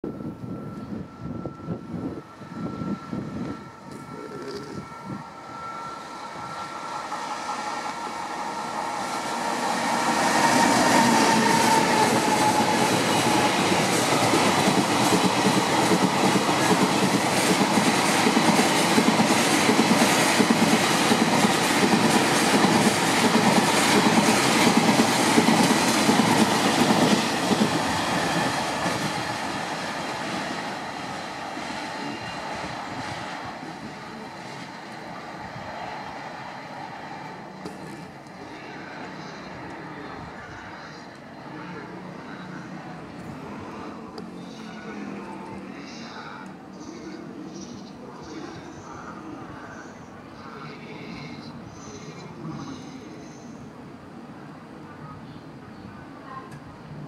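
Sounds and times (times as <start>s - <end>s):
locomotive whine: 0.0s - 50.4s.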